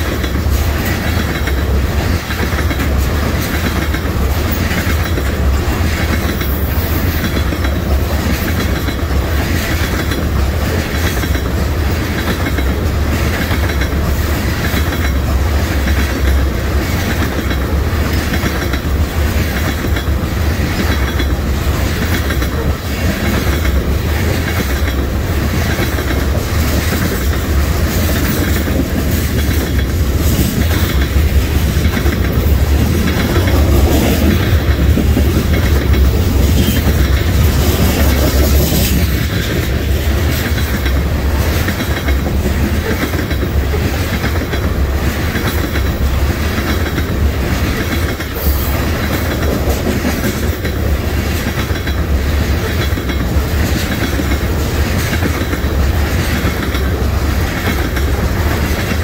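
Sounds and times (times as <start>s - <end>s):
train rumbling past: 0.0s - 59.0s
wheels clacking over rail joints: 0.0s - 59.0s.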